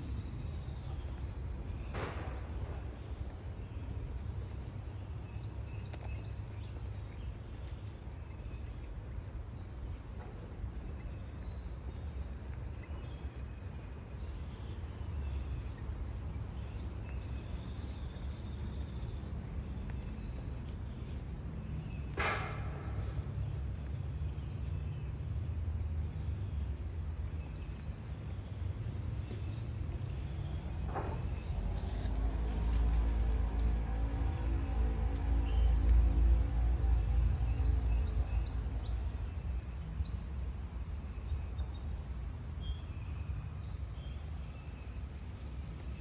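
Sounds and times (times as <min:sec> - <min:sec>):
low rumble: 0:00.0 - 0:40.8.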